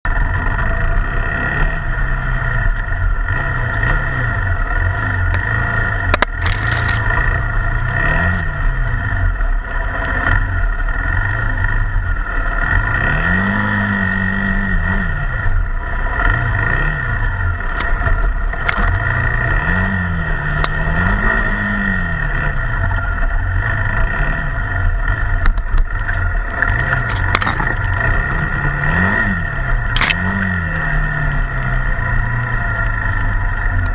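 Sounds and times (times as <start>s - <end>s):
motorcycle engine revving: 0.1s - 33.9s.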